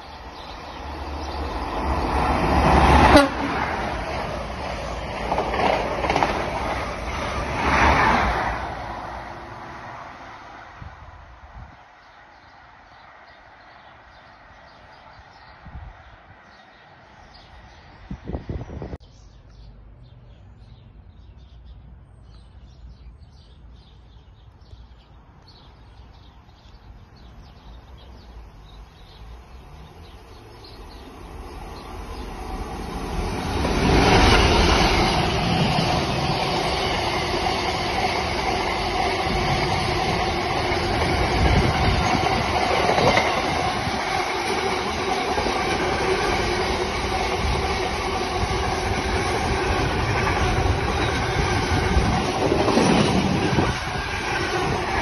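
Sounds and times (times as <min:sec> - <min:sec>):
diesel locomotive passing: 0:00.0 - 0:19.0, 0:27.8 - 0:55.0.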